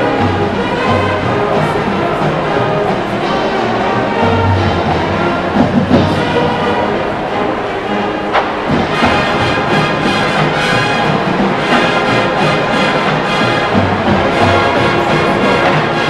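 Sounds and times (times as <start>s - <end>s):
marching band with brass: 0.0s - 16.0s.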